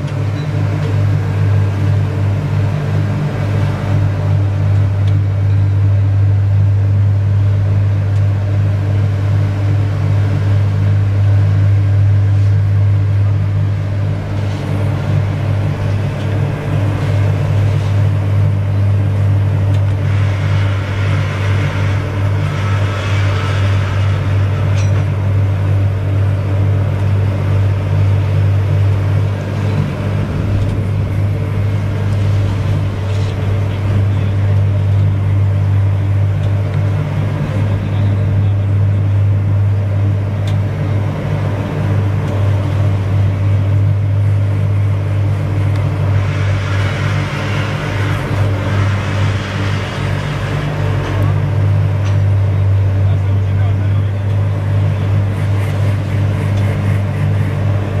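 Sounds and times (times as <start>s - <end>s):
deep machine hum: 0.0s - 58.0s.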